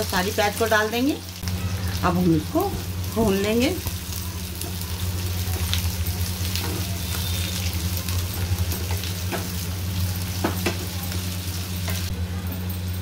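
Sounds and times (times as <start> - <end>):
onions sizzling in hot oil: 0.0 - 12.2.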